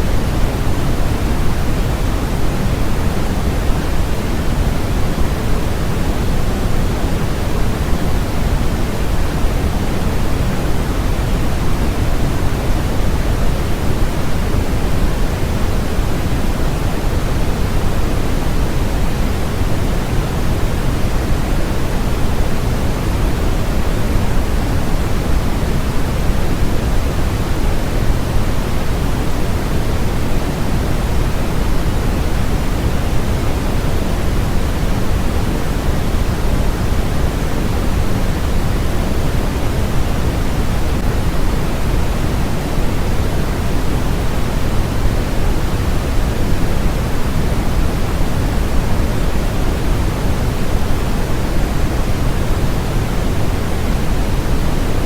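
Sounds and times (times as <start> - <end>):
steady relaxation noise: 0.0 - 55.0.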